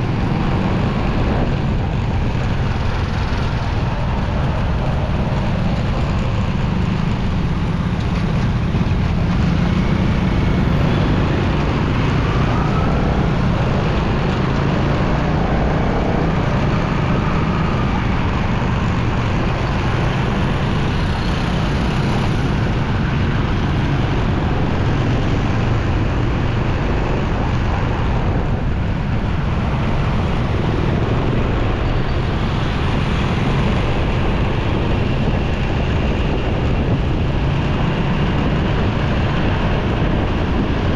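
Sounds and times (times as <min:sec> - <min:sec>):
motorcycle engine rumble: 0:00.0 - 0:40.9
passing vehicles: 0:00.0 - 0:40.9
wind on microphone: 0:00.0 - 0:40.9.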